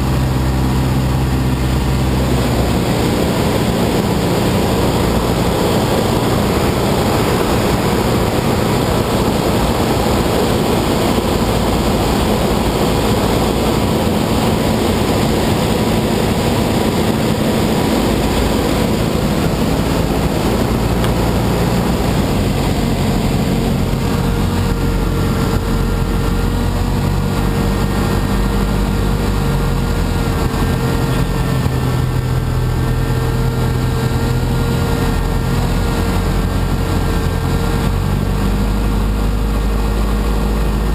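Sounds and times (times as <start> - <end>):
aircraft propeller engine: 0.0 - 40.9
wind noise: 0.0 - 40.9.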